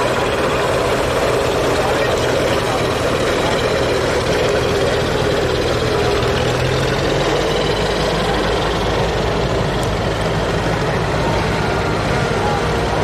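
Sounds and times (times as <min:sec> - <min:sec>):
old engines idling: 0:00.0 - 0:13.0
truck engine driving past slowly: 0:00.0 - 0:13.0.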